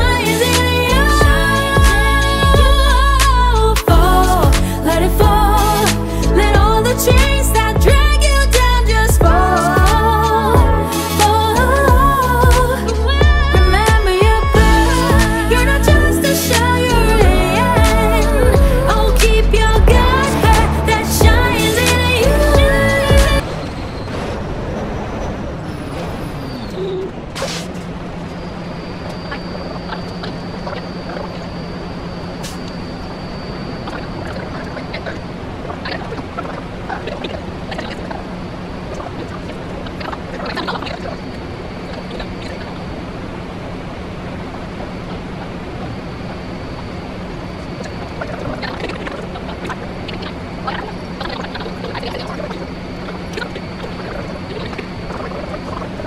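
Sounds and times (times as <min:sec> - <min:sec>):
faint high whine: 0:00.0 - 0:56.0
vehicle running hum: 0:00.0 - 0:56.0.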